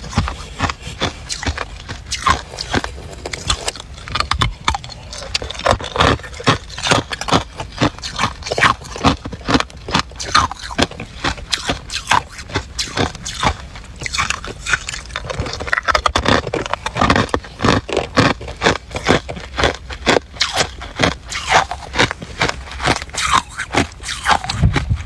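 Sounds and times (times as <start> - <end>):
person crunching ice: 0.0 - 25.0.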